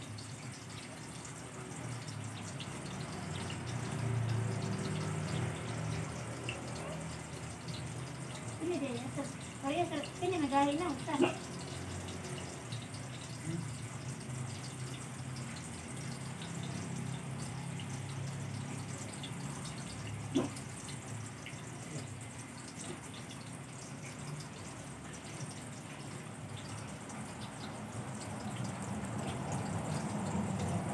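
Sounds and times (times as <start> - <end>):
water running from a hose: 0.0 - 30.9.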